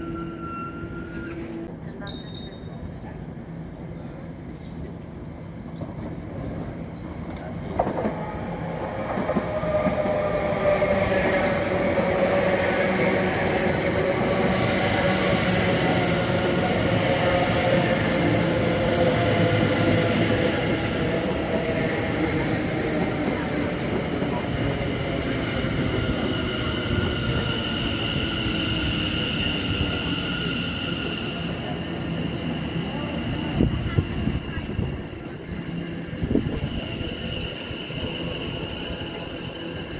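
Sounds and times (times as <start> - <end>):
passenger train arriving: 0.0 - 39.9
train running gear whine: 7.8 - 39.9.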